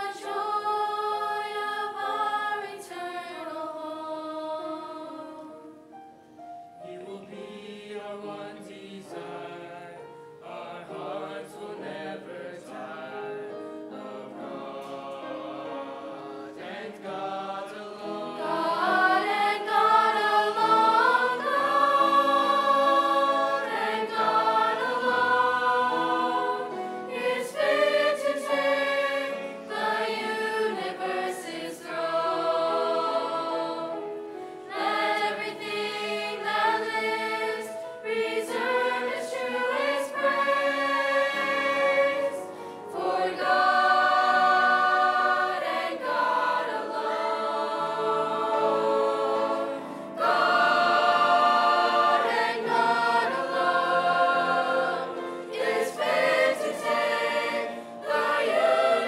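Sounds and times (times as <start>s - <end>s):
choir singing: 0.0s - 6.0s, 6.8s - 59.0s.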